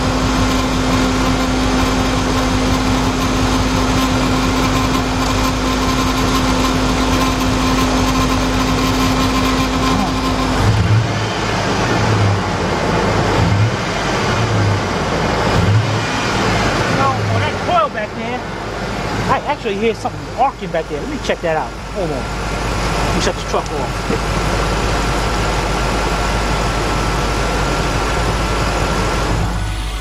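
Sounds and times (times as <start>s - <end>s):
engine idling with misfire: 0.0s - 30.0s
steady hum: 0.0s - 30.0s.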